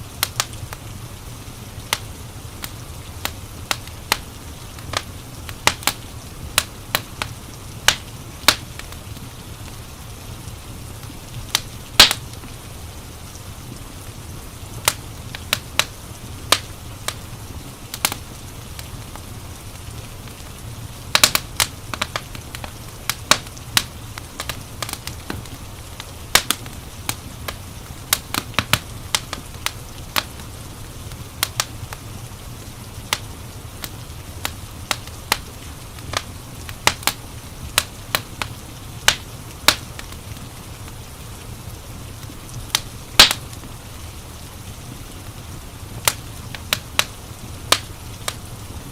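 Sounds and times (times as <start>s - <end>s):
low rumble of fire: 0.0s - 48.9s
fire pops and snaps: 0.2s - 0.8s, 1.8s - 9.8s, 11.0s - 12.6s, 14.8s - 30.5s, 31.1s - 32.0s, 33.1s - 41.0s, 42.1s - 43.8s, 46.0s - 48.9s.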